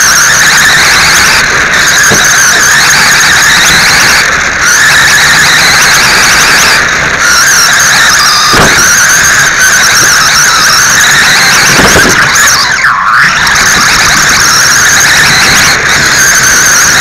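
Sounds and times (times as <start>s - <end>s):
rc car motor whine: 0.0s - 17.0s.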